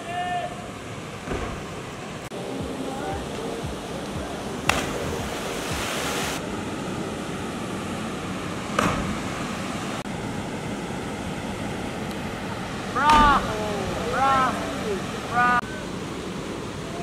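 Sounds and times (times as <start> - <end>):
waterfall and river rushing: 0.5 - 17.0.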